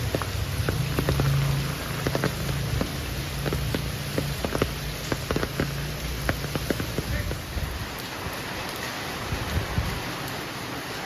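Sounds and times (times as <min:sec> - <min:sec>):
raindrops tapping on hard surface: 0:00.0 - 0:10.4.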